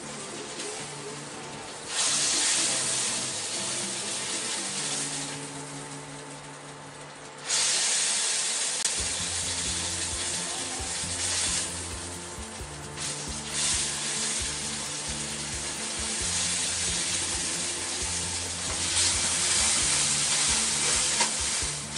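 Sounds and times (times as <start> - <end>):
meat sizzling in a wok: 0.0 - 6.7, 7.4 - 21.9.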